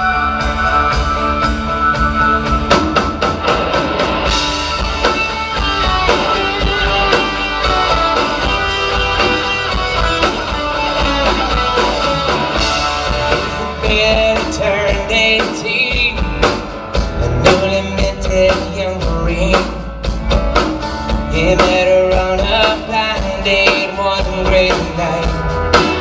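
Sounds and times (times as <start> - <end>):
drum kit: 0.0 - 26.0
electric guitars: 0.0 - 26.0.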